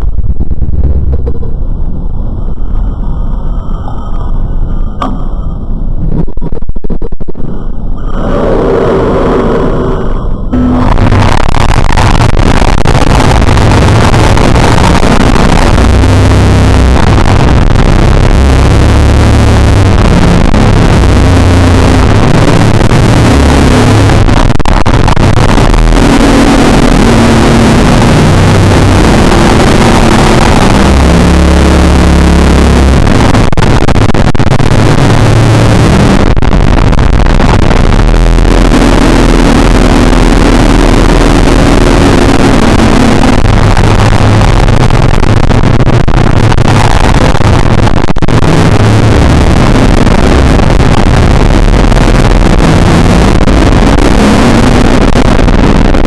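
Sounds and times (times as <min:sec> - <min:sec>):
distorted droning noise: 0:00.0 - 0:56.0.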